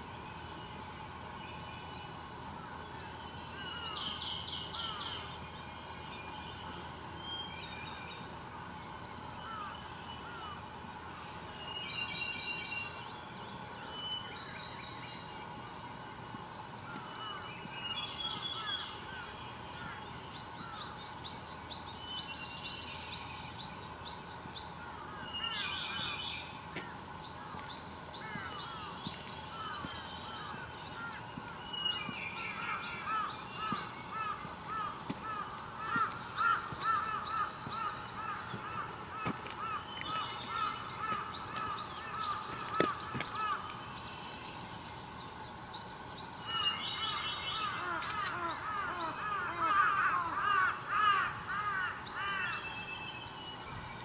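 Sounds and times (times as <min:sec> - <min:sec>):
songbirds singing and calling: 0:00.0 - 0:54.0.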